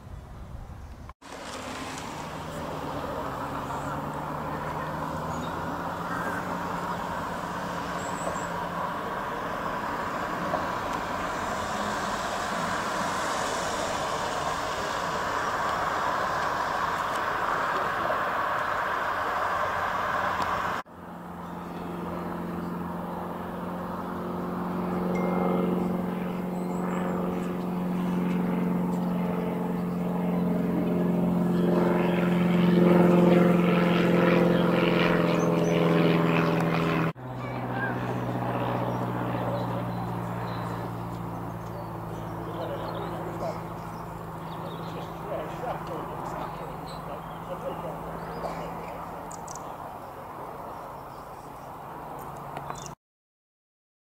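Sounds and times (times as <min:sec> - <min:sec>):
engine drone: 0:00.0 - 0:53.0
broad rushing noise: 0:01.2 - 0:52.7.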